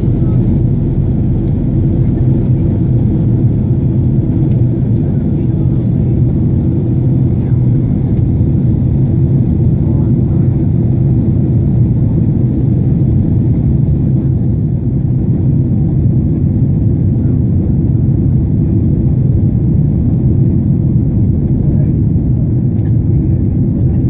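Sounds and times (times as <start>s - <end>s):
airliner engines rumbling: 0.0s - 24.0s.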